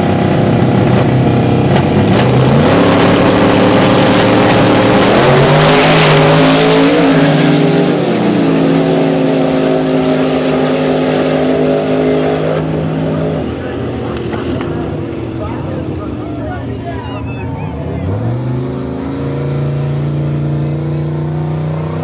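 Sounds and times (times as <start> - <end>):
racing engine at full throttle: 0.0 - 22.0.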